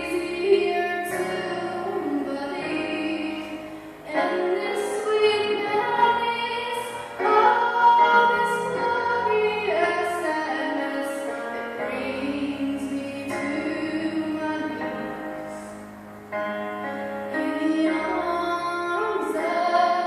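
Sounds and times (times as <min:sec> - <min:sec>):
woman singing: 0:00.0 - 0:15.7, 0:17.3 - 0:20.0
musical accompaniment: 0:00.0 - 0:20.0.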